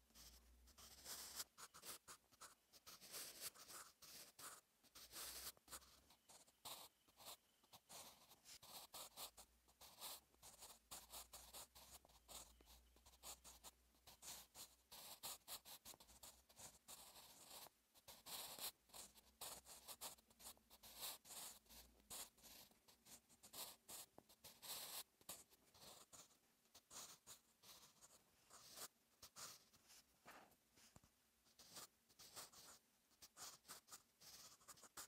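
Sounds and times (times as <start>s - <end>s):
pencil scratching on paper: 0.0s - 35.0s.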